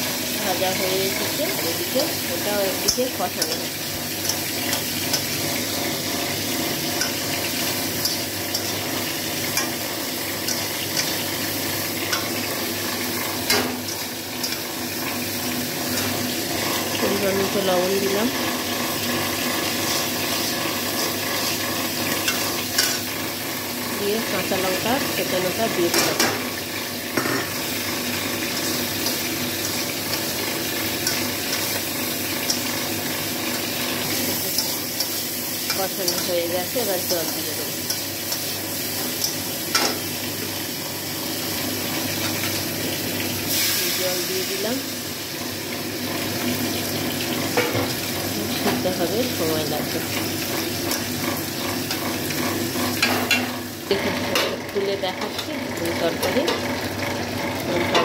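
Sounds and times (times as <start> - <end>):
potatoes sizzling in hot oil: 0.0 - 58.0.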